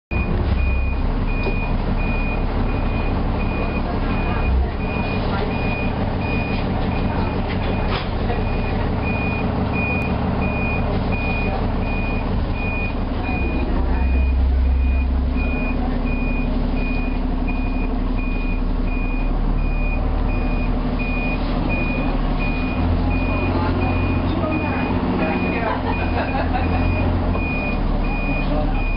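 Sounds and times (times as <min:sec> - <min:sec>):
bus diesel engine drone: 0:00.1 - 0:28.9
reversing alarm beeping: 0:00.1 - 0:28.9.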